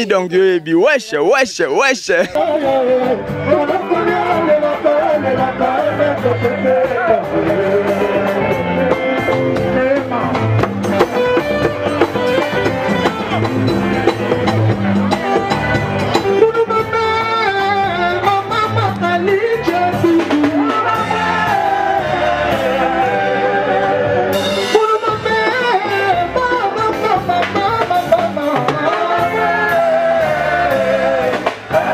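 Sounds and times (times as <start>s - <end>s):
guitar: 0.0s - 31.9s.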